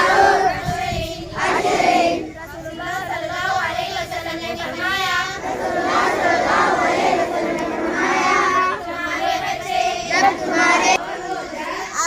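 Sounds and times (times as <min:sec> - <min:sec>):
crowd of children's voices: 0:00.0 - 0:12.0.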